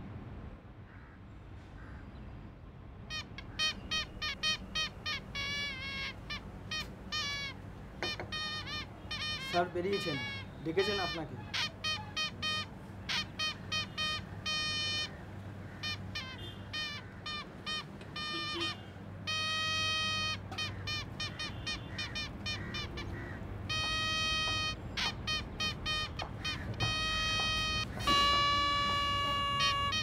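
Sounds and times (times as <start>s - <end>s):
toy party trumpets tooting: 3.1s - 15.2s, 15.8s - 30.0s.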